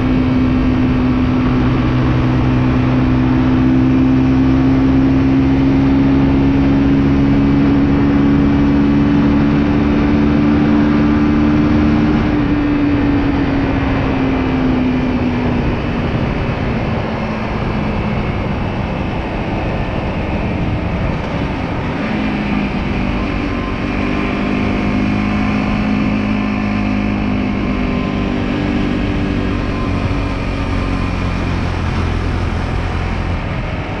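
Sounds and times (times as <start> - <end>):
motorcycle engine running: 0.0 - 34.0
road noise: 0.0 - 34.0
wind: 0.0 - 34.0.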